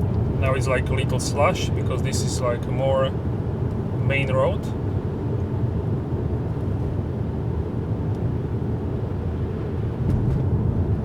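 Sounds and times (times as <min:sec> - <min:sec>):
car engine: 0:00.0 - 0:10.6.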